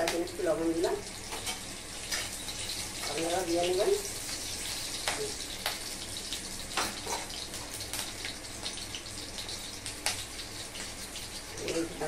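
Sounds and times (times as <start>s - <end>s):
oil sizzling with crackles: 0.0s - 12.0s.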